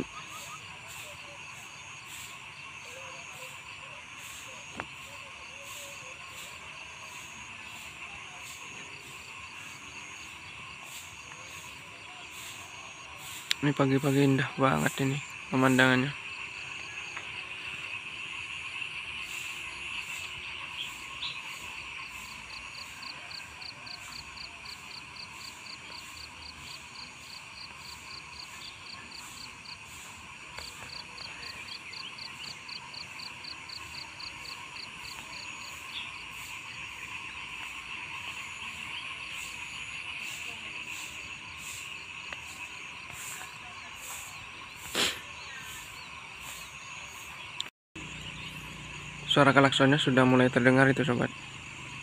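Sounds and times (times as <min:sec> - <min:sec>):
high chorus of frogs and insects: 0:00.0 - 0:52.0.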